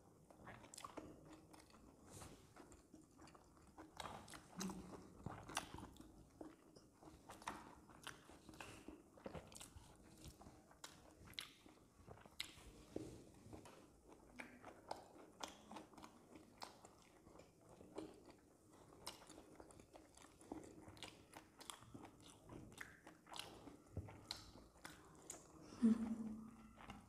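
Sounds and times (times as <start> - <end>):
people chewing food: 0.0 - 27.0.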